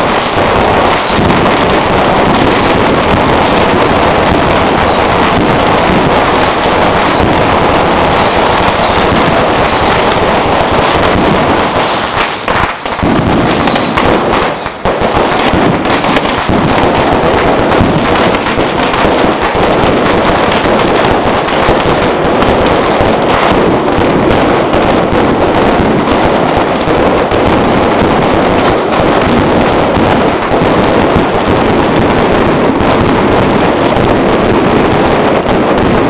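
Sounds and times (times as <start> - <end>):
fireworks crackling and banging: 0.0 - 36.0
fireworks whistling: 0.0 - 36.0.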